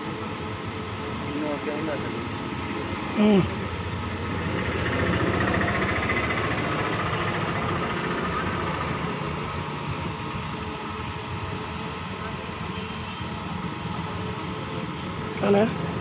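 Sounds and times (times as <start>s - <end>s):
engine-like mechanical hum: 0.0s - 16.0s.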